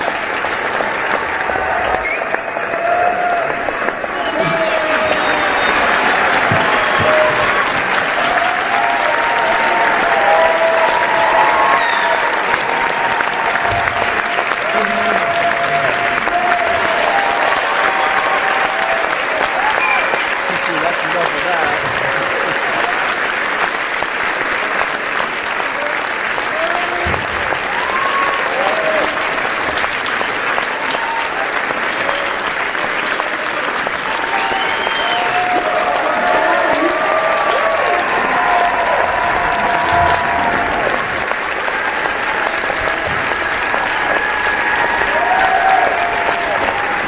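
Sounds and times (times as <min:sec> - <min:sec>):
crowd applauding: 0:00.0 - 0:47.0.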